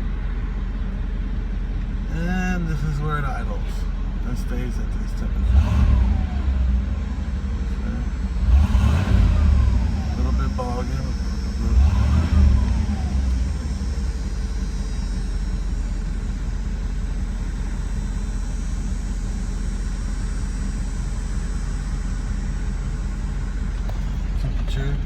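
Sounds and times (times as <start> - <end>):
car engine idling high: 0.0 - 25.0.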